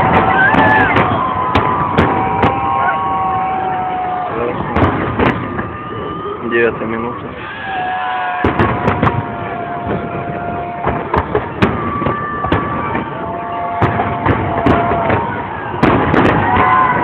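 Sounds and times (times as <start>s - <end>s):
continuous din with held tones: 0.0s - 17.0s
fireworks bangs and cracks: 0.0s - 17.0s.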